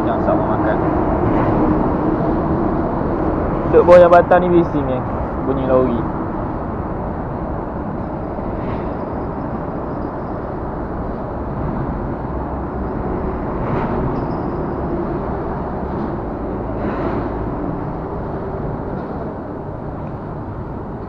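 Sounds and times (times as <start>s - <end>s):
traffic rumbling over bridge: 0.0s - 21.0s.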